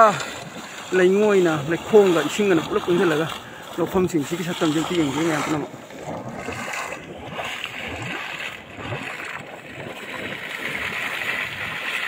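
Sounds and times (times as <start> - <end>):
muddy water bubbling and splashing: 0.0 - 12.0.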